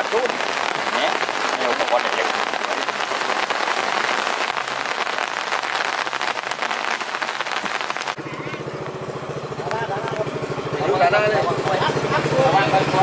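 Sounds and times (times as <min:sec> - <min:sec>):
rain patter: 0:00.0 - 0:10.8.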